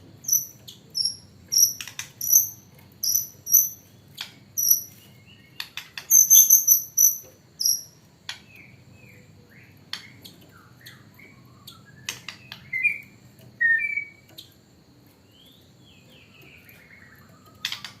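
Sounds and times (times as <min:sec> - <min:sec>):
bird singing: 0:00.0 - 0:14.6, 0:15.2 - 0:18.0.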